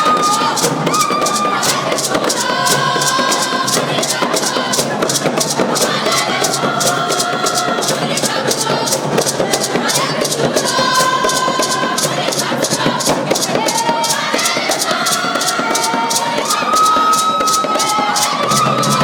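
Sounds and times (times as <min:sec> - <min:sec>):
crowd noise: 0:00.0 - 0:19.0
fast percussive beat: 0:00.0 - 0:19.0
group of voices singing: 0:00.0 - 0:19.0.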